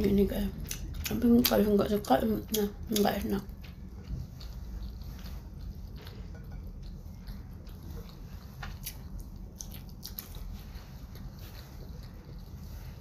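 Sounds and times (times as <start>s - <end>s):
steady low hum: 0.0s - 13.0s
wet chewing clicks and smacks: 0.5s - 12.6s.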